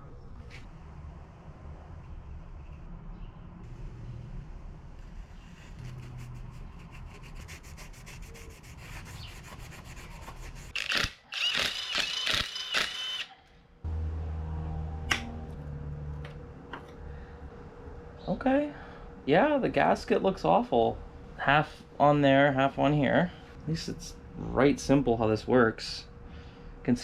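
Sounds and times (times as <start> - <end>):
low hum: 0.0 - 10.6, 12.6 - 27.0.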